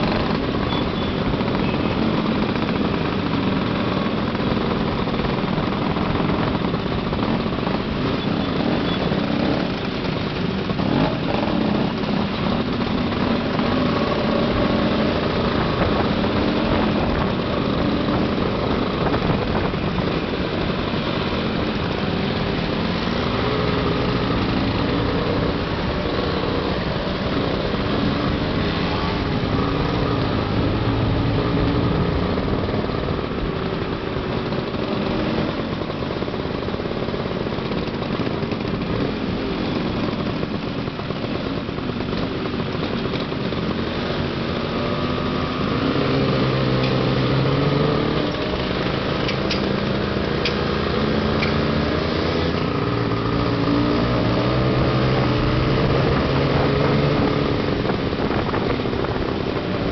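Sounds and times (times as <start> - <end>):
scooter engines: 0.0 - 59.9
wind and road noise: 0.0 - 59.9.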